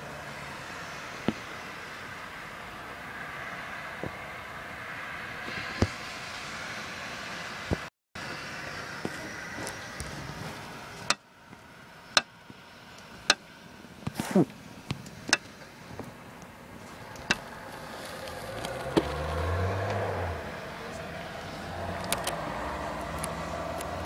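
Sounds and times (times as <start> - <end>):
road traffic: 0.0 - 24.0
vehicle engine hum passing: 0.0 - 24.0.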